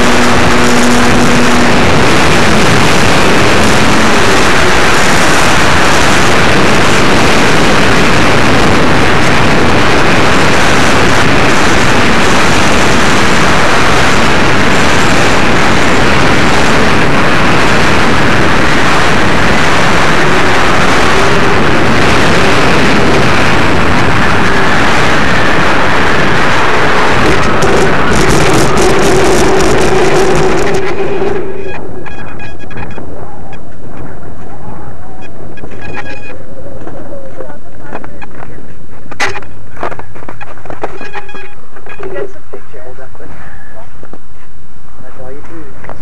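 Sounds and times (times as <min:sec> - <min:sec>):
wind rush: 0:00.0 - 0:43.5
faint hum: 0:00.0 - 0:46.0.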